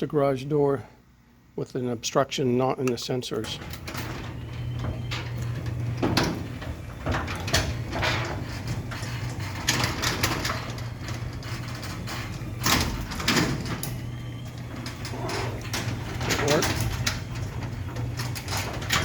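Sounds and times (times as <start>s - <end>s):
garage door motor hum: 0.0s - 19.0s
door and chain clanking: 3.4s - 19.0s.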